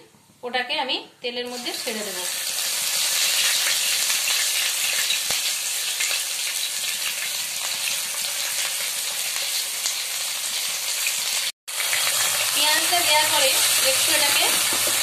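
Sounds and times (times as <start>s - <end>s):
onion frying in oil: 1.5s - 15.0s.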